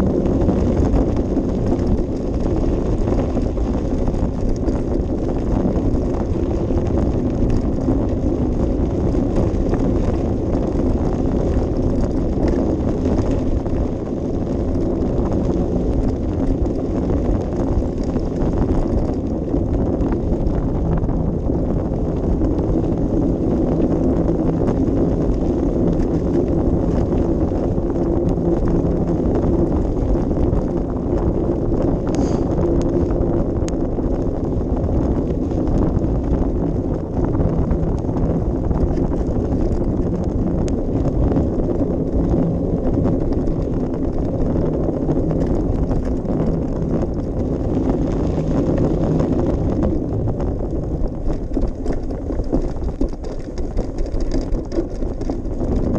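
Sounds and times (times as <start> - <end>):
bicycle rattling: 0.0 - 55.9
wind rumble on microphone: 0.0 - 55.9.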